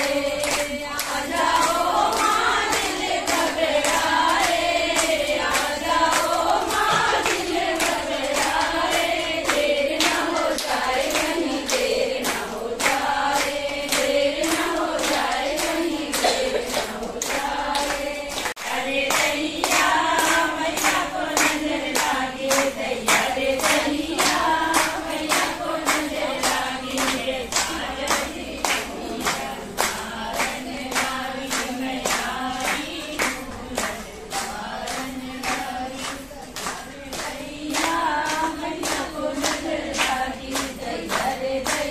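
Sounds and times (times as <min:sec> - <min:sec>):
hands clapping in steady beat: 0:00.0 - 0:41.9
women singing devotional song: 0:00.0 - 0:41.9.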